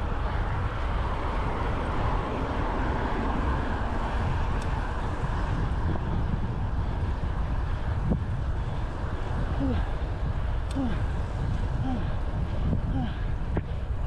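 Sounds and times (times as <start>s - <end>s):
road and traffic noise: 0.0s - 14.0s
wind buffeting microphone: 0.0s - 14.0s.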